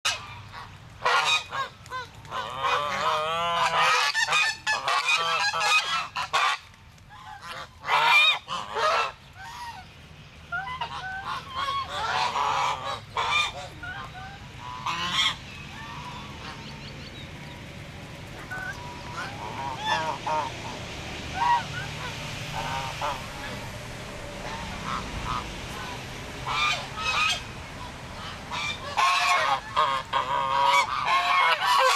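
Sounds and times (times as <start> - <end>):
geese honking: 0.1 - 31.9.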